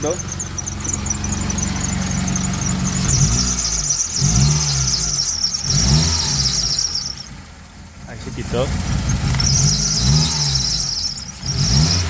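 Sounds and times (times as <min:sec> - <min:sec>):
high-pitched belt squeal: 0:00.0 - 0:07.4, 0:08.5 - 0:12.0
car engine revving: 0:00.0 - 0:12.0.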